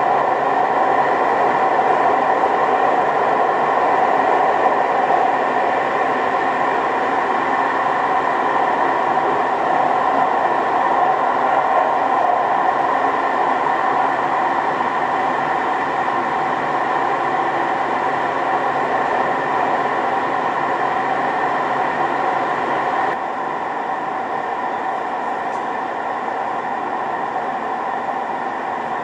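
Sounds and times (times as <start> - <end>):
train rolling rumble: 0.0 - 29.0.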